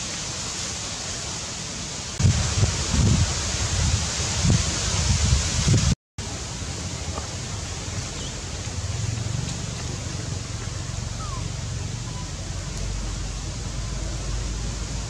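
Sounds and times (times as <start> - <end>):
even hiss: 0.0 - 15.0.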